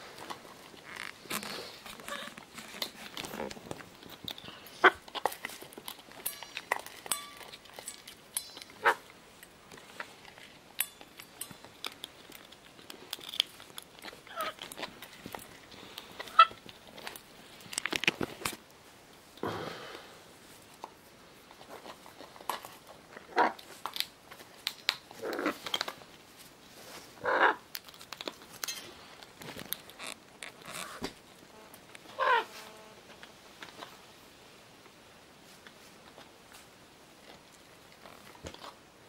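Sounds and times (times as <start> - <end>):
parrot beak crunching seeds: 0.1 - 18.7, 20.8 - 34.0.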